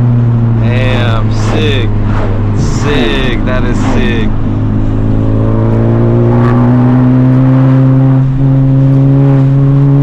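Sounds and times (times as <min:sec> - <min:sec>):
car engine under load: 0:00.0 - 0:10.0.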